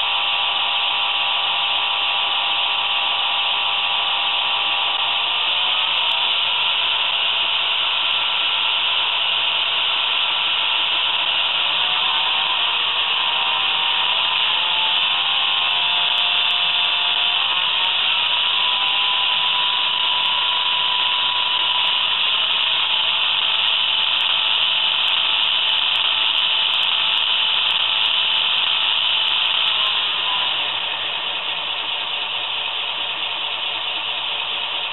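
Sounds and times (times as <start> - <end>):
model locomotive diesel engine sound: 0.0 - 34.9.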